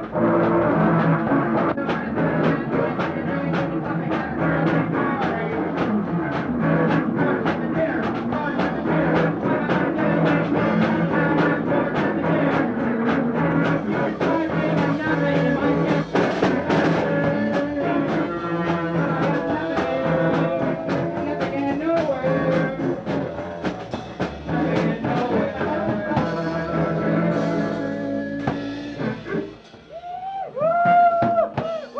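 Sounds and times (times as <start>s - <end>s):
drum kit hitting: 0.0s - 30.0s
rock band playing: 0.0s - 31.9s.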